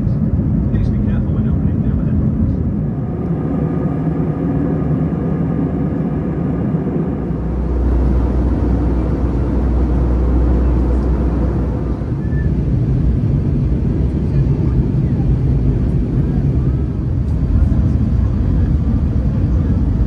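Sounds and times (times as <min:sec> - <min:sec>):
aircraft cabin engine and airflow noise: 0:00.0 - 0:20.0
deeper rumble: 0:00.0 - 0:20.0.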